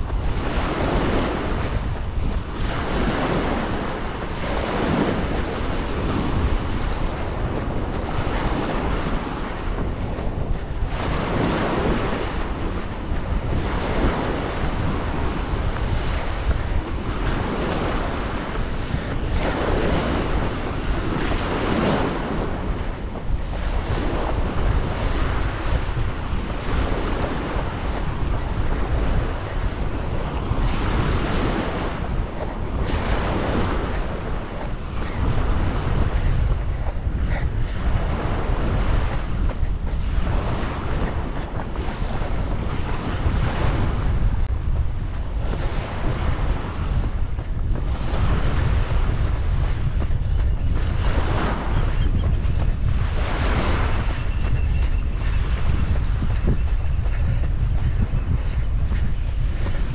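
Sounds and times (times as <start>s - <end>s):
small waves breaking on sand: 0.0s - 59.9s
wind rumble on microphone: 0.0s - 59.9s.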